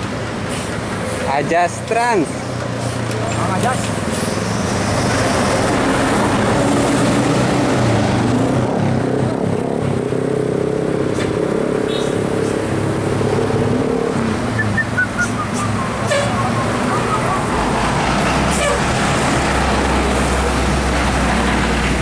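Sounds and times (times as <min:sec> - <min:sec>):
vehicles driving past: 0:00.0 - 0:22.0.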